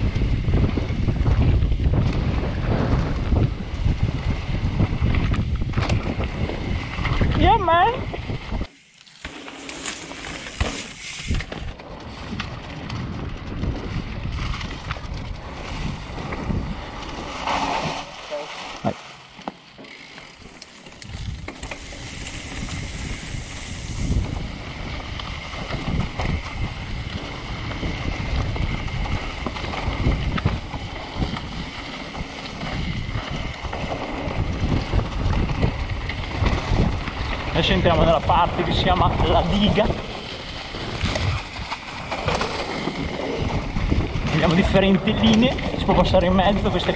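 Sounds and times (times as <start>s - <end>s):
wind on microphone: 0.0s - 8.7s, 10.2s - 19.0s, 21.0s - 46.9s
bike chain and frame rattling: 0.0s - 18.3s, 19.6s - 46.9s
tyres rolling over dirt and leaves: 0.0s - 46.9s.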